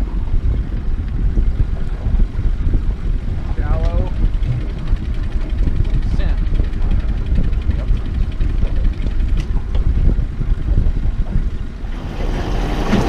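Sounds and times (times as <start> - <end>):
boat motor low rumble: 0.0 - 13.0.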